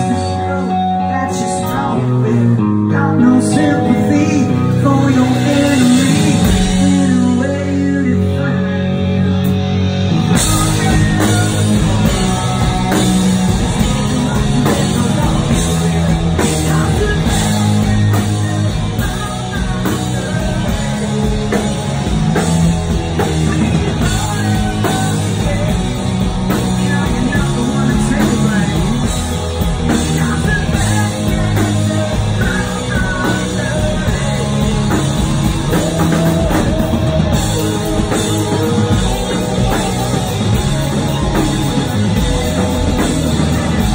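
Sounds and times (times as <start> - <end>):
bass guitar: 0.0 - 43.9
electric guitars: 0.0 - 43.9
person singing: 0.0 - 43.9
drum kit and cymbals: 4.3 - 8.0, 9.2 - 43.9.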